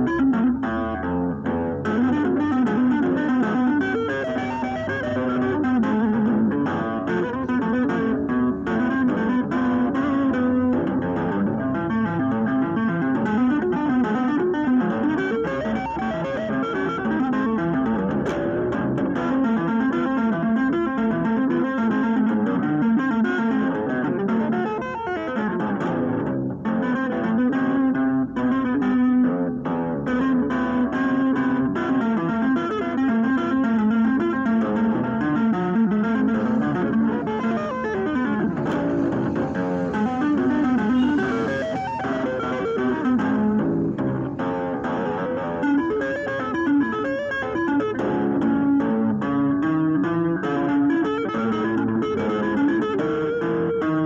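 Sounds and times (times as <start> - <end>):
electric guitar tapping fast runs: 0.0 - 54.0.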